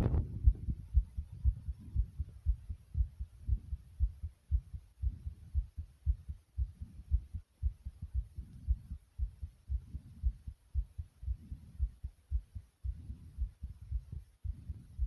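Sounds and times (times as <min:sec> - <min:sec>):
heartbeat thuds: 0:00.0 - 0:15.0.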